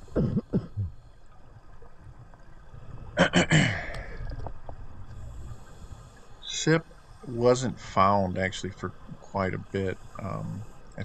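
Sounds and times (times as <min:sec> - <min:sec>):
low water rumble: 0:00.0 - 0:11.0
underwater bubbles gurgling: 0:00.0 - 0:11.0.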